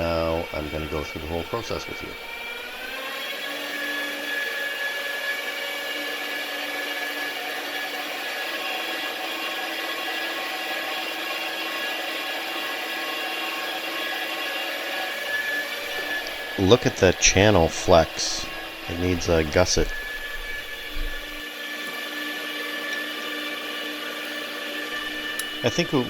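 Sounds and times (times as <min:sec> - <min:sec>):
electric drill motor whining: 0:00.0 - 0:26.0.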